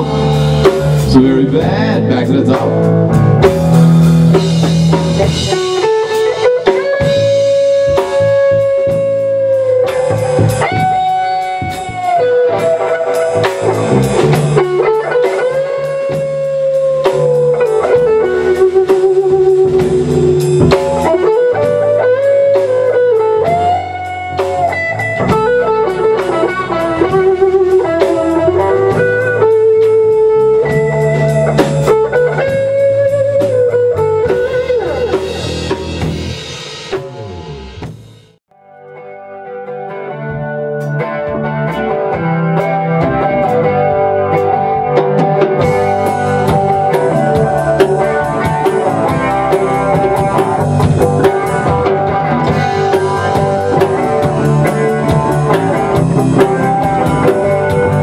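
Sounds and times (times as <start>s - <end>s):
drum kit: 0.0s - 38.5s, 39.7s - 58.0s
electric guitar bending notes: 0.0s - 58.0s
low rhythm part: 0.0s - 58.0s.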